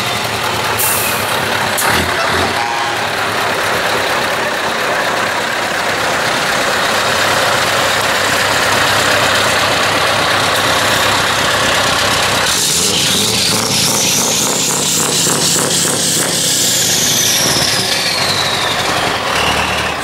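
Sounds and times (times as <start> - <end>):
truck diesel engines idling: 0.0 - 20.0.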